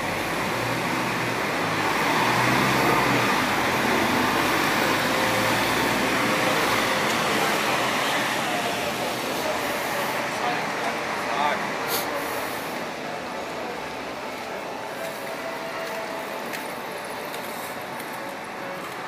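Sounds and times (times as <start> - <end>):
vehicle engine humming past: 0.0 - 16.2
tyre and street noise: 0.0 - 19.0.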